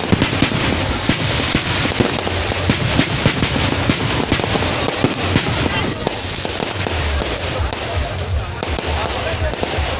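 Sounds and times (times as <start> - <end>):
firework bangs and pops: 0.0 - 9.9
fireworks crackling: 0.0 - 9.9.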